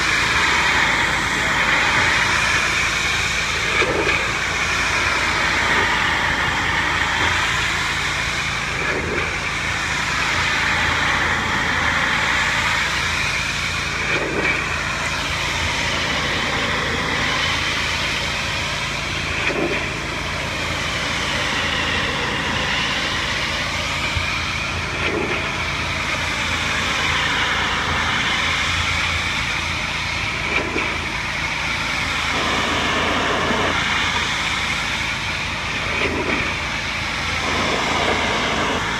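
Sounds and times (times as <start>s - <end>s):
pressure washer machine hum: 0.0s - 38.9s
pressure washer spray hissing: 0.0s - 38.9s.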